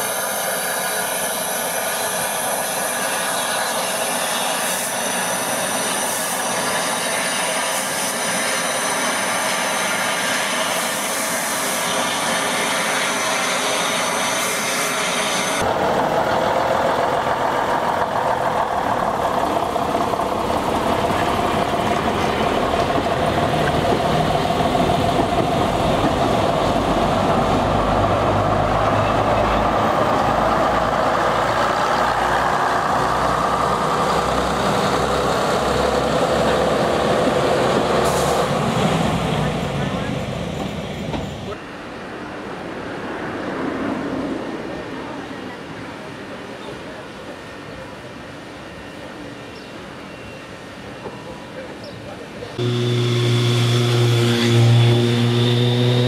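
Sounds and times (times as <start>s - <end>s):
diesel train engines running: 0.0s - 56.0s
steam locomotive rumbling: 0.0s - 56.0s.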